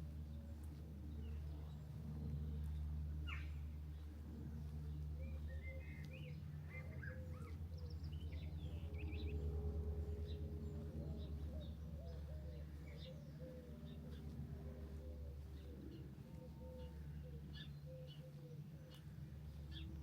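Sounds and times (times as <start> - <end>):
songbirds chirping and trilling: 0.0 - 20.0
steady low rumble: 0.0 - 20.0.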